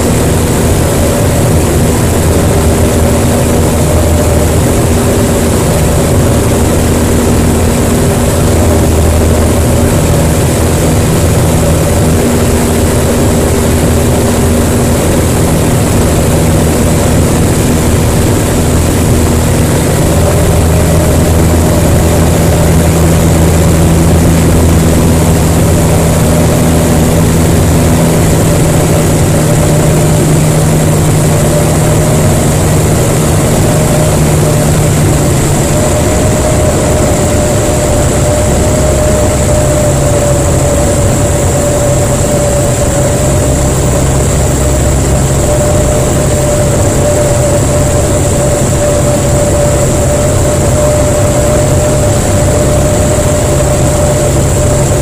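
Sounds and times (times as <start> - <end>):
aircraft engine drone: 0.0 - 55.0
rushing air: 0.0 - 55.0.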